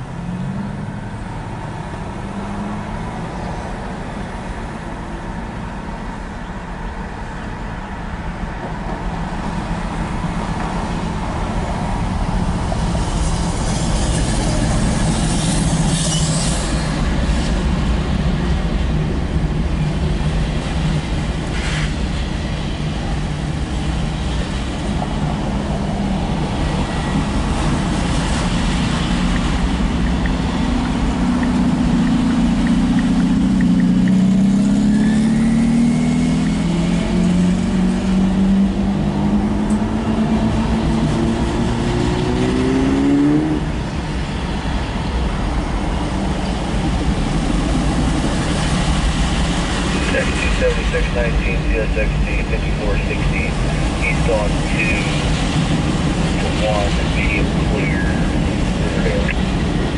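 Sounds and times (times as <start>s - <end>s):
freight train rumbling past: 6.0s - 59.9s.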